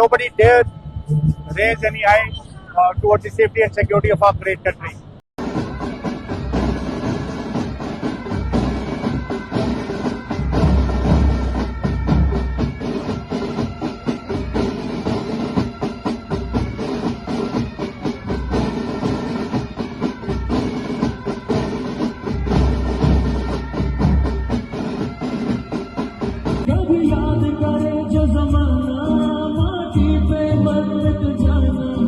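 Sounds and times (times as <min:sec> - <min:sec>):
military band playing: 0:00.0 - 0:26.9.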